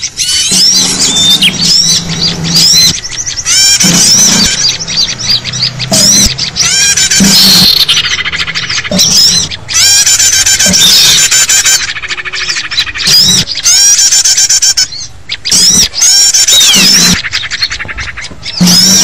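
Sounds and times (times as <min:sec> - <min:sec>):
songbirds chirping in chorus: 0:00.0 - 0:19.0.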